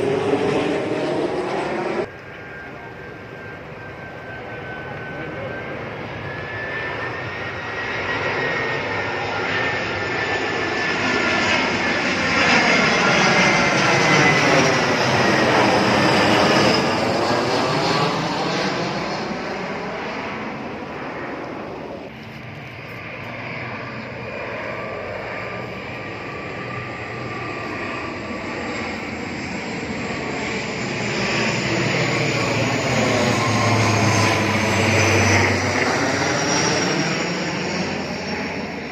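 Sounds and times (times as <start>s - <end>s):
airplane flying overhead: 0.0s - 38.9s.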